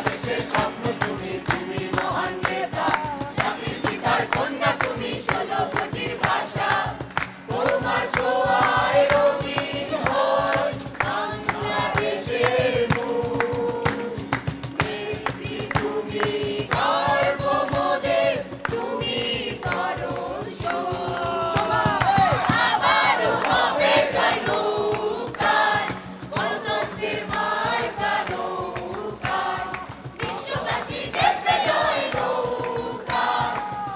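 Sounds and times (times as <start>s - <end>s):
group singing in chorus: 0.0s - 33.9s
rhythmic hand clapping: 0.0s - 33.9s.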